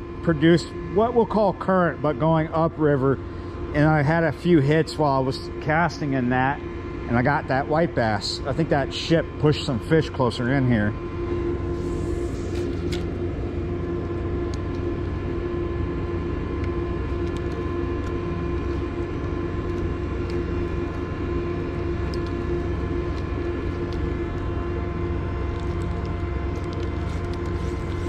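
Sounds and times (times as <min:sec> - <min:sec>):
machinery drone: 0:00.0 - 0:28.0.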